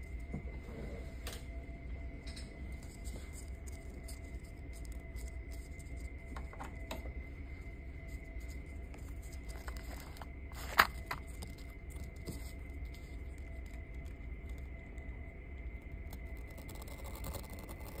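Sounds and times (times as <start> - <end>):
faint high whine: 0.0 - 18.0
low hum: 0.0 - 18.0.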